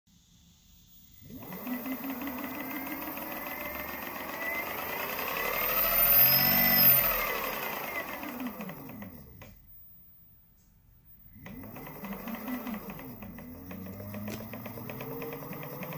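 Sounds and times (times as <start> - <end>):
motor spinning up and down: 1.0 - 9.6, 11.3 - 15.9.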